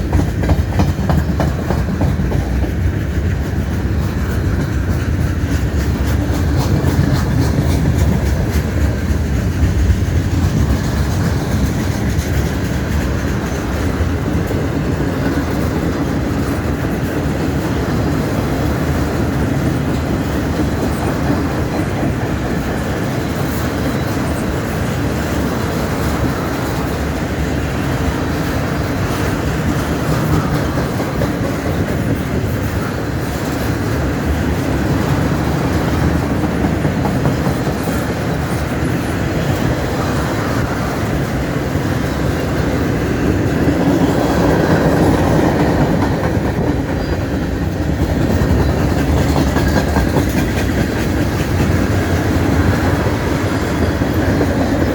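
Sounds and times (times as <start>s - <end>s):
train cars rumbling on rails: 0.0s - 54.9s.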